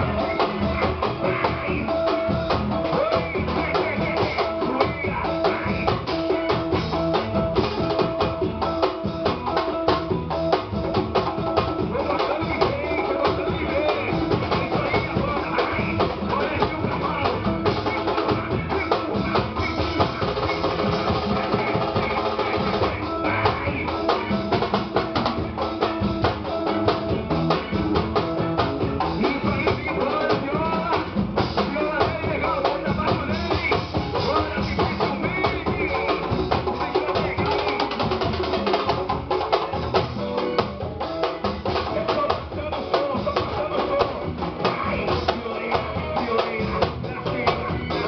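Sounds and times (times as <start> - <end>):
drum kit beat: 0.0 - 48.0
live band playing: 0.0 - 48.0.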